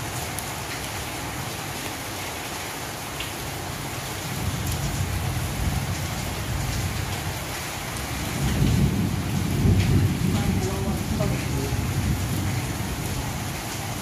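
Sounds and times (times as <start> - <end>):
rain on tin roof: 0.0 - 14.0.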